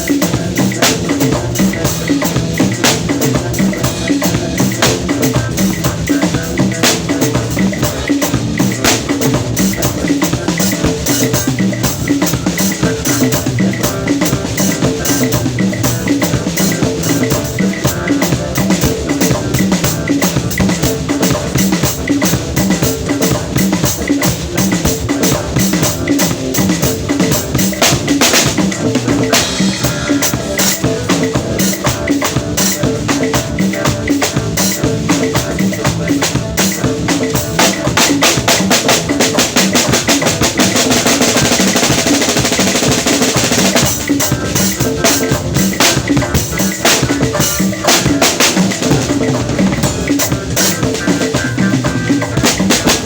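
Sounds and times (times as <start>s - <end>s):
drum kit playing busy rhythm: 0.0s - 53.0s.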